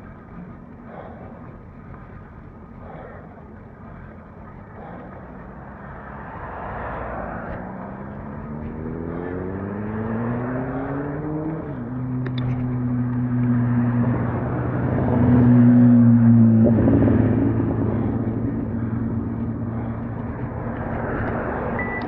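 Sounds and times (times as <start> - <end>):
road noise: 0.0 - 22.0
vehicle engine accelerating: 0.0 - 22.0.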